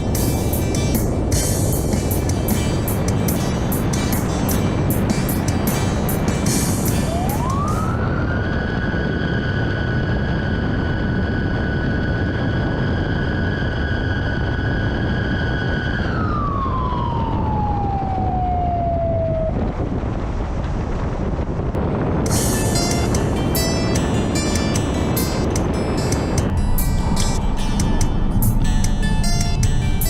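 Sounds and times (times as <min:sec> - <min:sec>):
vehicle and road noise: 0:00.0 - 0:30.0
warning siren long tone: 0:03.0 - 0:20.0, 0:21.8 - 0:30.0.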